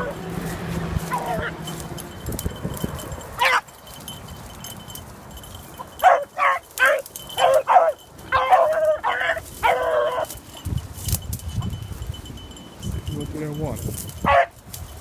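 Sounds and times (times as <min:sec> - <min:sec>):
dogs baying and barking: 0:00.0 - 0:12.8, 0:14.1 - 0:14.7.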